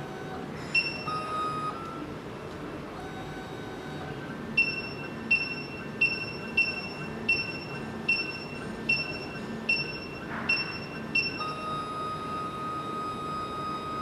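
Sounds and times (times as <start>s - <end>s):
key machine motor hum: 0.0s - 14.0s.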